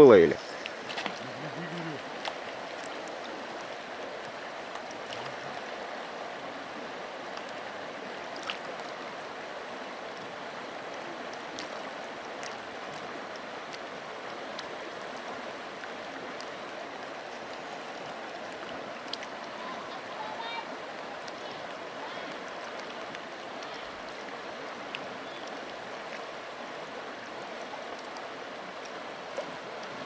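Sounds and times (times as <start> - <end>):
river rushing over riffle: 0.0 - 30.0.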